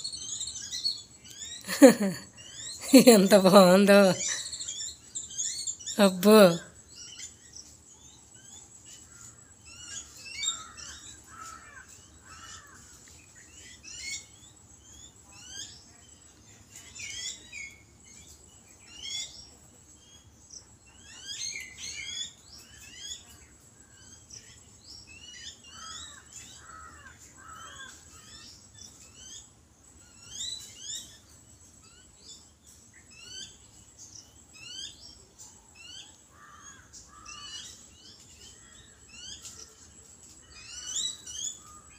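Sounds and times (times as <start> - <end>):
birds chattering: 0.0 - 41.9.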